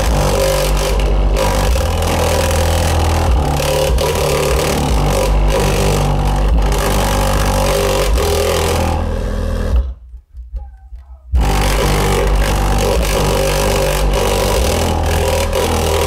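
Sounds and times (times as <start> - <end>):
bass-heavy music through subwoofer: 0.0 - 16.0.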